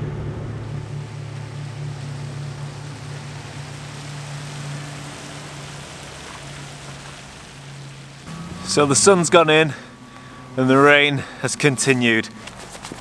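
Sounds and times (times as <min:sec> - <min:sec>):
low engine drone: 0:00.0 - 0:13.0
rain and wet tyres hissing: 0:00.0 - 0:13.0.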